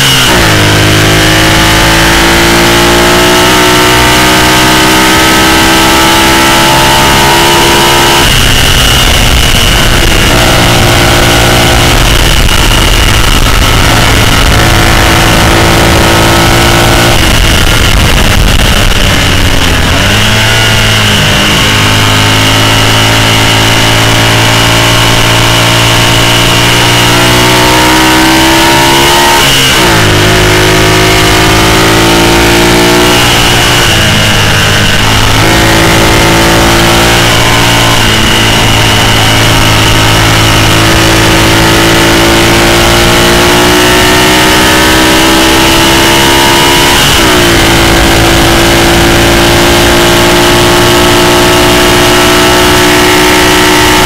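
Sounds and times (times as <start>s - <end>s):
engine revving through gears: 0.0s - 54.0s
wind and road noise: 0.0s - 54.0s.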